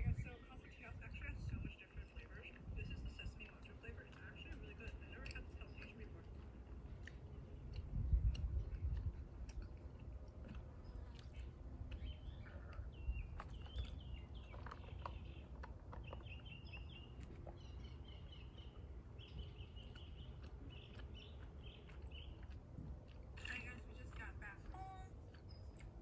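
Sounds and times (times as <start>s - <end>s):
low background rumble: 0.0s - 26.0s
small birds chirping: 0.0s - 26.0s.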